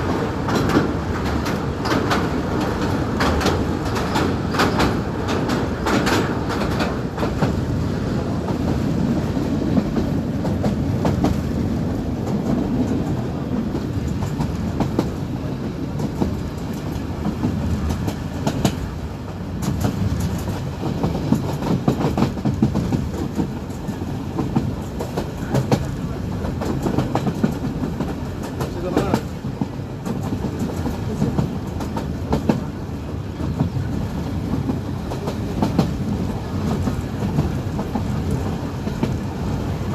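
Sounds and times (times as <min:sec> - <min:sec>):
train wheels rumbling: 0:00.0 - 0:39.9
wheels clicking over rail joints: 0:00.0 - 0:39.9.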